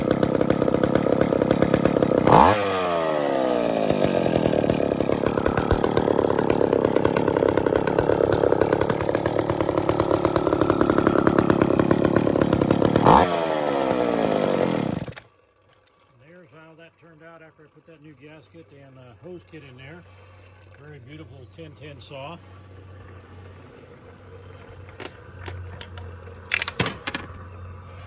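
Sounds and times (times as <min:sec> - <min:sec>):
chainsaw revving: 0:00.0 - 0:28.0.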